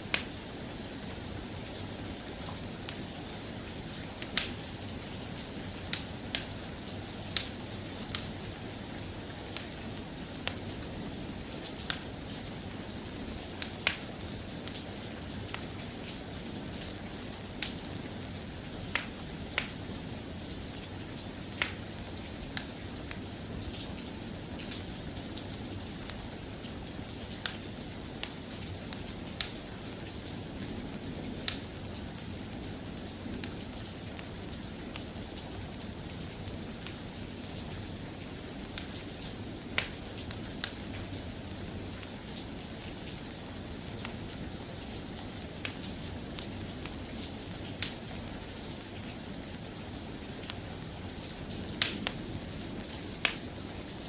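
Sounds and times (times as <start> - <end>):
soft rain: 0.0 - 54.0.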